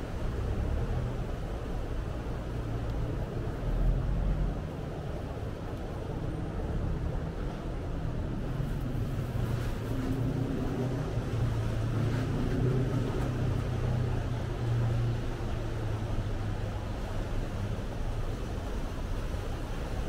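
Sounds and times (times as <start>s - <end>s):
boat diesel engine humming: 0.0s - 20.0s.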